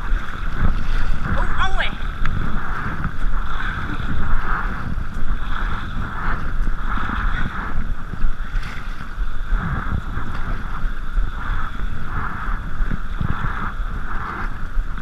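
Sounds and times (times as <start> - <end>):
paddle strokes splashing: 0.0 - 15.0
wind rumble on microphone: 0.0 - 15.0.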